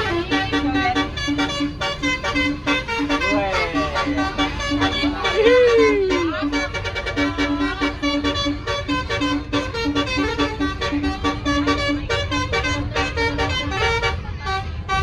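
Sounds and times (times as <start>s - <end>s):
air horns playing a tune: 0.0s - 15.0s
low engine rumble: 0.0s - 15.0s.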